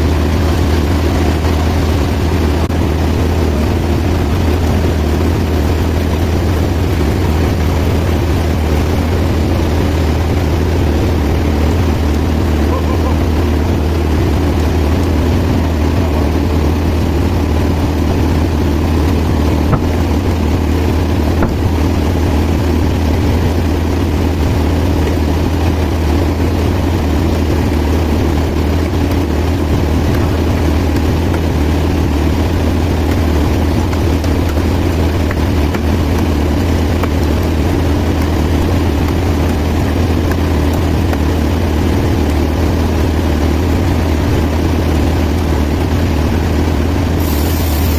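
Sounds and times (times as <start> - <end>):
sawmill machinery drone: 0.0 - 47.9.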